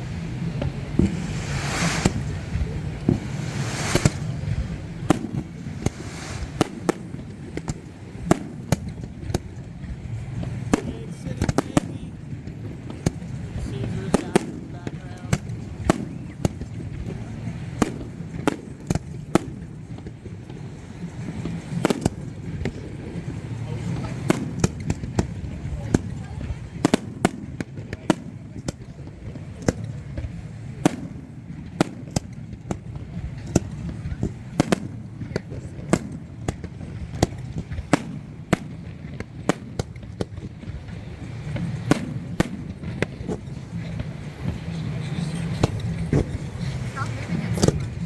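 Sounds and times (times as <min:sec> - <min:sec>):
fireworks bangs: 0:00.0 - 0:48.0
low background noise: 0:00.0 - 0:48.0
low steady murmur: 0:00.0 - 0:48.0.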